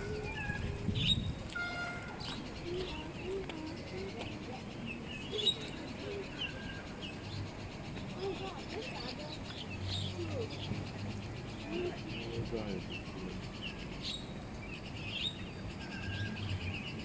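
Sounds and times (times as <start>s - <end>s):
high chirps and squeaky calls: 0.0s - 17.0s.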